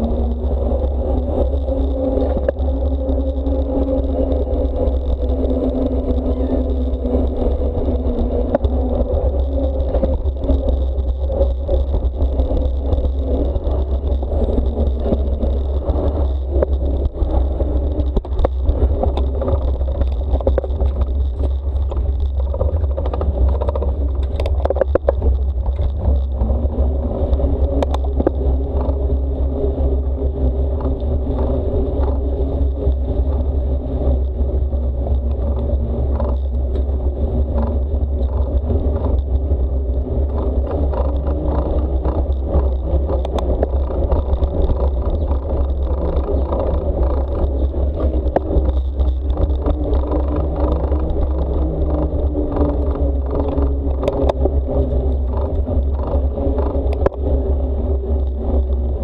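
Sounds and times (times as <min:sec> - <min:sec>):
bike clicks and rattles: 0:00.0 - 0:59.0
tyres humming on road: 0:00.0 - 0:59.0
wind rumble on microphone: 0:00.0 - 0:59.0.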